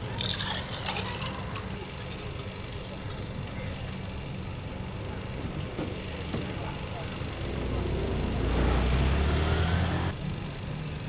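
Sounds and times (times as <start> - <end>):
low street hum: 0.0 - 11.0.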